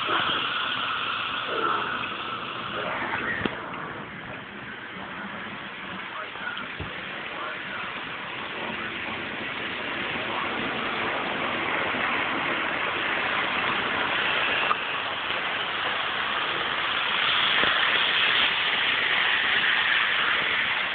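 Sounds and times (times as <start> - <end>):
model train whirring on track: 0.0 - 20.9.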